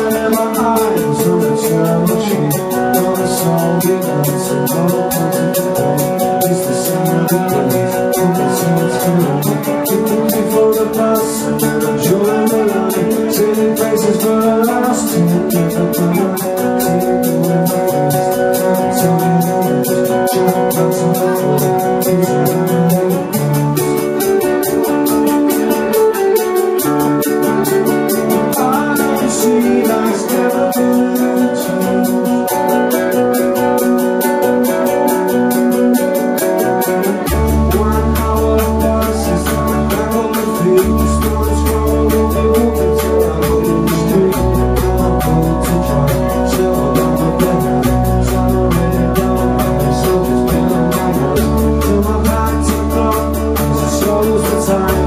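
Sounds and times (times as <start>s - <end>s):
lead vocal singing: 0.0s - 24.0s, 27.2s - 33.6s, 36.0s - 55.0s
rock band playing: 0.0s - 55.0s.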